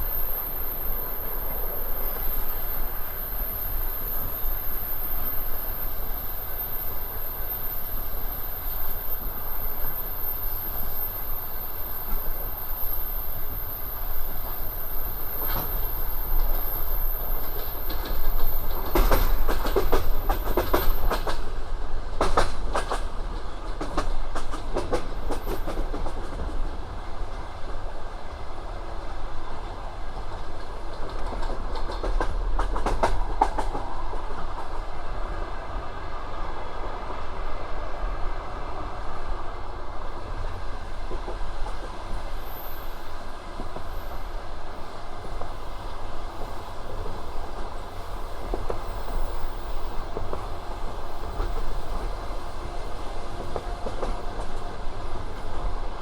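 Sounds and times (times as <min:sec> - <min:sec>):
train low rumble: 0:00.0 - 0:56.0
wheels clickety-clack over rail joints: 0:00.0 - 0:56.0.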